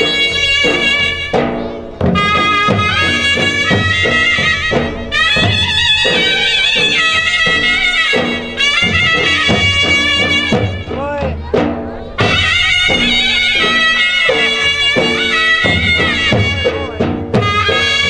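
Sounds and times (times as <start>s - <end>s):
reedy wind instrument melody: 0.0s - 18.0s
steady drum beat: 0.0s - 18.0s.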